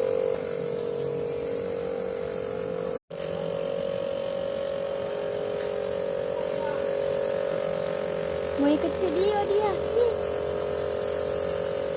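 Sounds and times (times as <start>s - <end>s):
steady buzzing hum: 0.0s - 11.9s.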